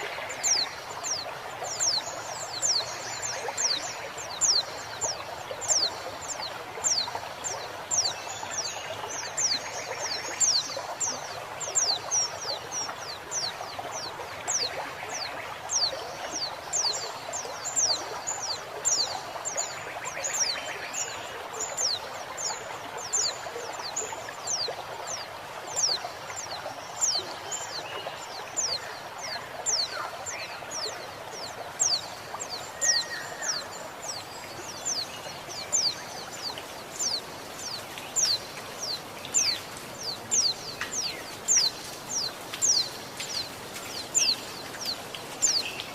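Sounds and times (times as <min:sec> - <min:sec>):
trickling flowing water: 0:00.0 - 0:45.9.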